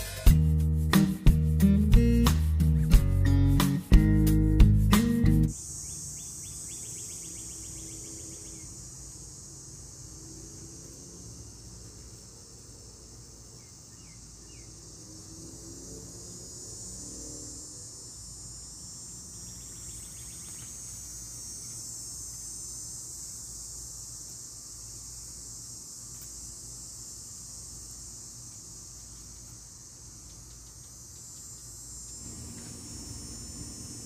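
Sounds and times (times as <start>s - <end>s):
insect chorus: 2.8s - 34.0s.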